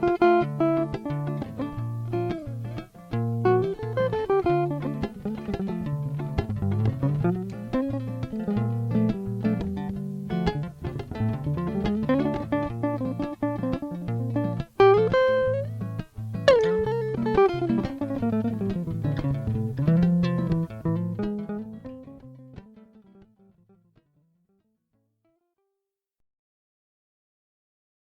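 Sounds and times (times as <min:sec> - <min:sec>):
electric guitar picked melody: 0:00.0 - 0:23.8.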